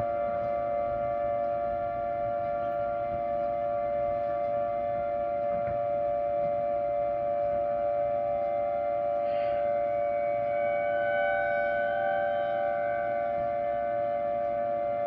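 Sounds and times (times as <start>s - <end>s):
electronic siren steady tone: 0.0s - 15.0s.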